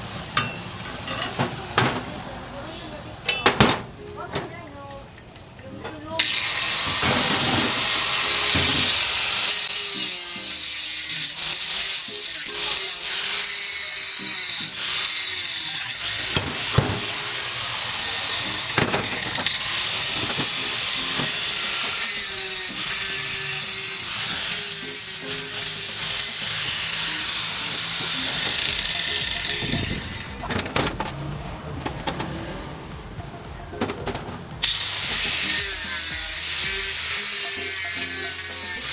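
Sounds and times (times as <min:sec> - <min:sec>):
music playing: 0:01.0 - 0:38.9
power tool grinding metal: 0:06.2 - 0:33.7, 0:34.5 - 0:38.9.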